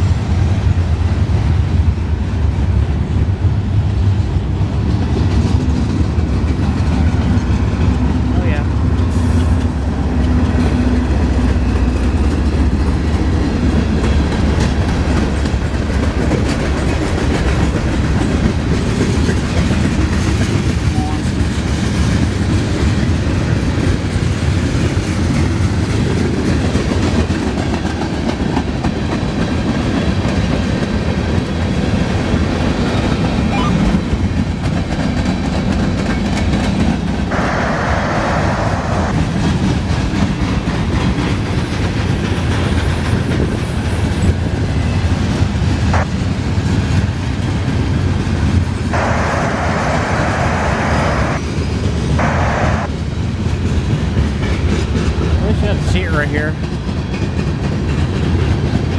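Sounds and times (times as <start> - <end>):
freight train cars rolling: 0.0 - 58.9.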